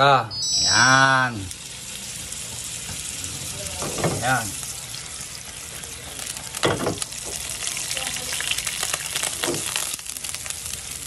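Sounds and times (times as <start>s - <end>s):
fat sizzling in hot oil: 0.8s - 11.0s.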